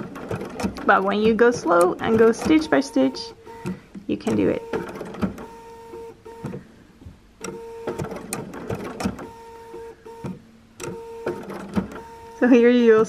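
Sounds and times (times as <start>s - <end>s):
sewing machine sewing: 0.0s - 6.7s, 7.4s - 13.0s.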